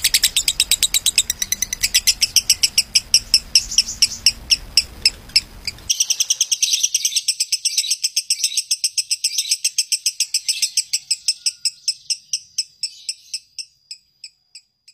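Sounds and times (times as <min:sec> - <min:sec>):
lovebird trilling high chirps: 0:00.0 - 0:14.7.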